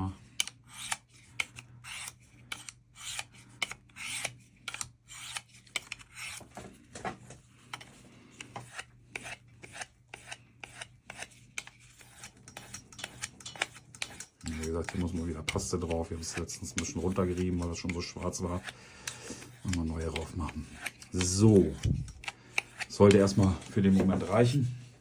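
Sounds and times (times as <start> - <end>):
knife blade scraping on sharpener: 0.3 - 6.4, 8.6 - 18.7, 19.4 - 23.8.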